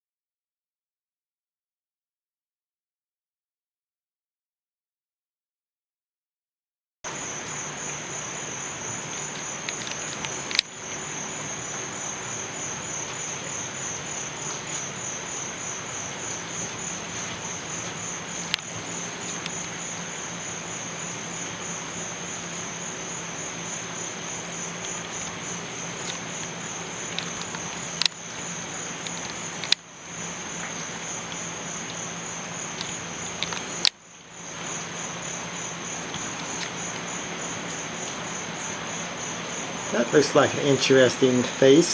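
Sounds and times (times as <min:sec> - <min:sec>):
crickets chirping: 0:07.1 - 0:41.9.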